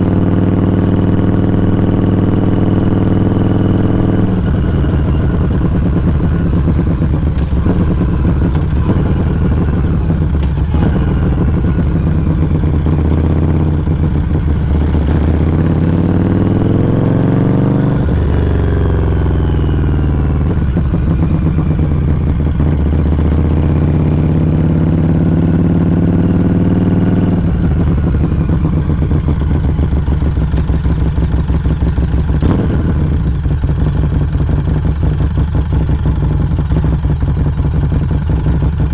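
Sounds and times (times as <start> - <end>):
motorcycle exhaust revving: 0.0 - 38.9.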